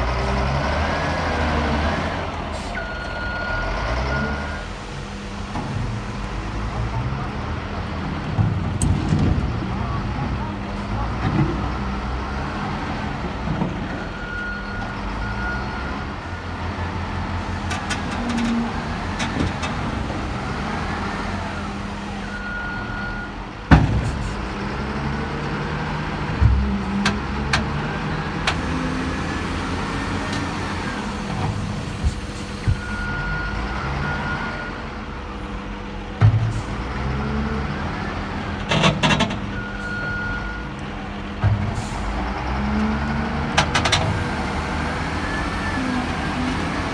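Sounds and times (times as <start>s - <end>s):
heavy machine engine revving: 0.0s - 46.9s.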